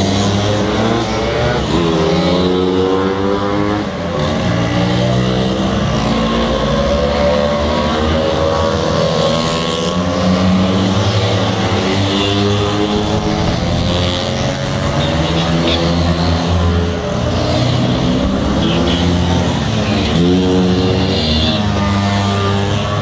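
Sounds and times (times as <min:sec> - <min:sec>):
motor scooters accelerating: 0:00.0 - 0:23.0.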